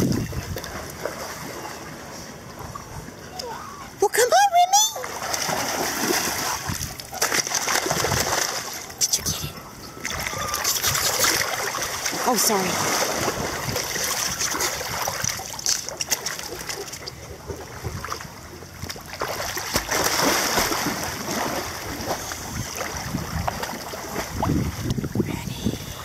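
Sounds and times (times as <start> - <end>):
water splashing in pool: 0.0 - 25.2.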